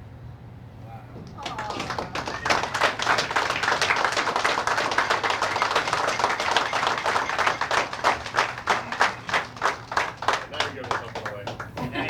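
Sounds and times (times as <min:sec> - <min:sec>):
crowd applauding: 0:01.1 - 0:12.0.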